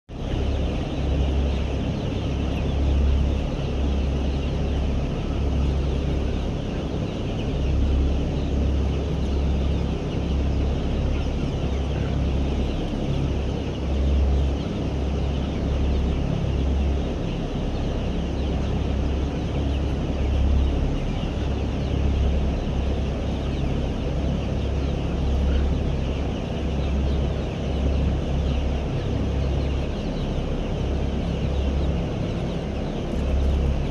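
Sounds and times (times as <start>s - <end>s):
chickens clucking: 0.2s - 33.9s.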